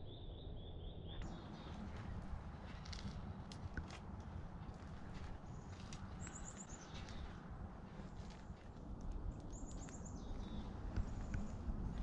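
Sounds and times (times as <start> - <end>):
faint low rumble: 0.0 - 12.0.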